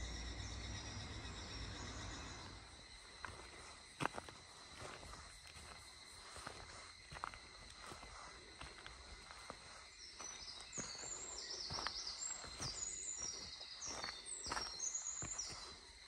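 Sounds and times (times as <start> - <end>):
footsteps on dirt trail: 2.8 - 16.0.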